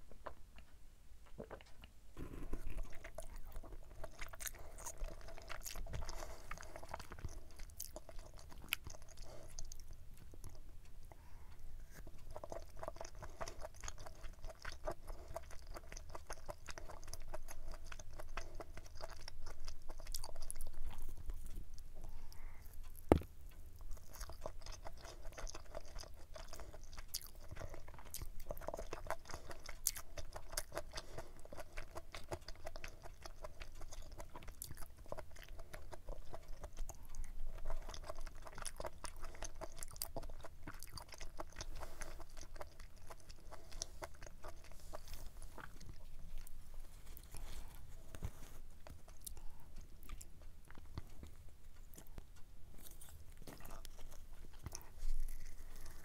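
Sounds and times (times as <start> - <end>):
close chewing and crunching: 0.0 - 56.0.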